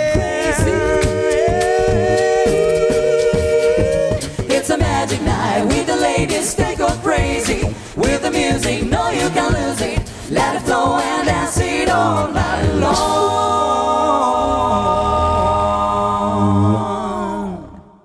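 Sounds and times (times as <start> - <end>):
a cappella group singing: 0.0 - 18.0
vocal percussion: 0.0 - 18.0.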